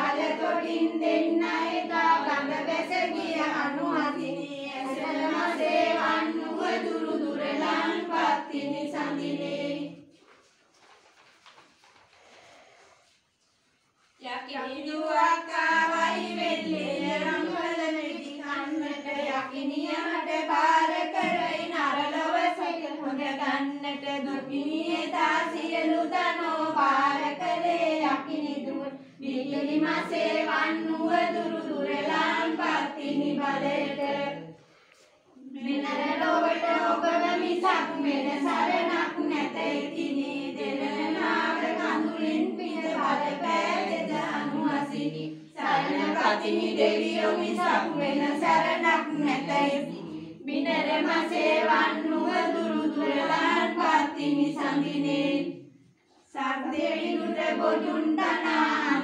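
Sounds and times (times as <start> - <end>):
women singing together: 0.0 - 10.2, 14.2 - 59.0.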